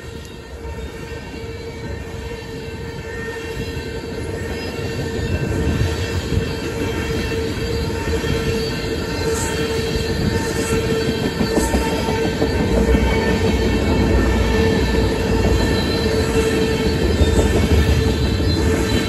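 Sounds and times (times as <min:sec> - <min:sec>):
crossing bell ringing tone: 0:00.0 - 0:19.0
train wheels rumbling on rails: 0:00.0 - 0:19.0.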